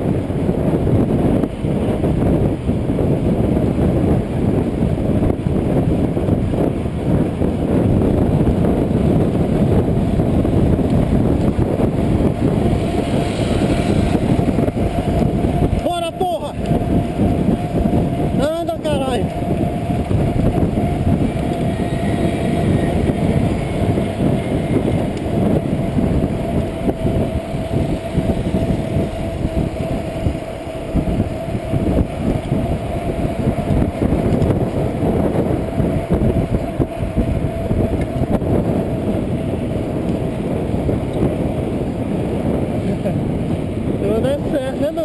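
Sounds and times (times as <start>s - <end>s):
tyre and road noise: 0.0s - 45.0s
wind rumbling on microphone: 0.0s - 45.0s.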